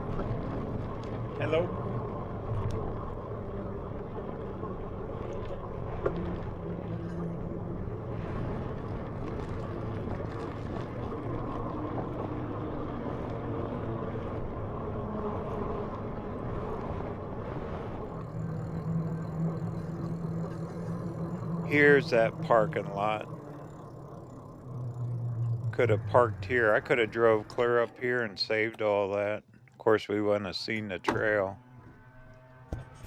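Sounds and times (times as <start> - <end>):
low motor hum: 0.0 - 33.0.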